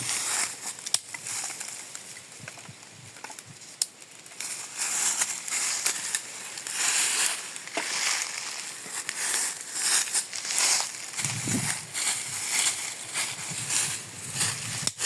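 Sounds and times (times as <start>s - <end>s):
dry leaves crunching and rustling: 0.0s - 1.9s, 4.2s - 15.0s
twigs snapping: 0.2s - 15.0s.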